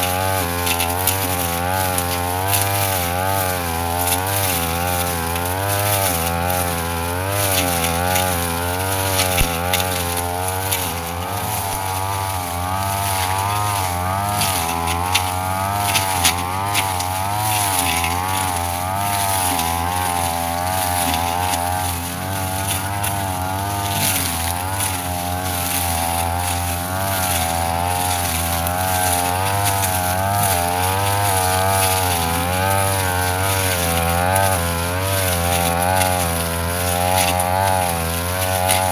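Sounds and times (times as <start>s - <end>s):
brush cutter engine: 0.0s - 38.9s.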